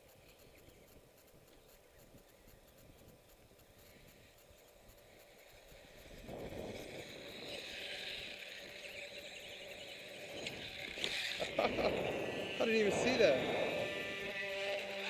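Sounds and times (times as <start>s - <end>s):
rc dirt bike motor and tyres: 0.0s - 15.0s.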